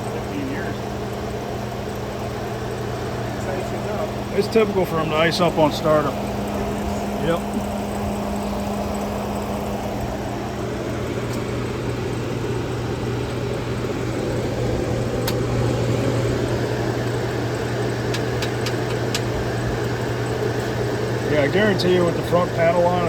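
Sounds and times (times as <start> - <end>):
compressor hum: 0.0 - 23.0
fans rushing: 0.0 - 23.0.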